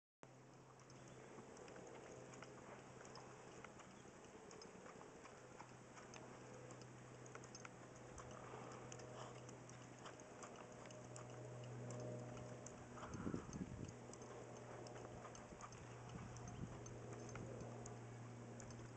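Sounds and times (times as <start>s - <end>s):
low hum: 0.2s - 18.9s
hoofbeats on sand: 1.0s - 18.2s.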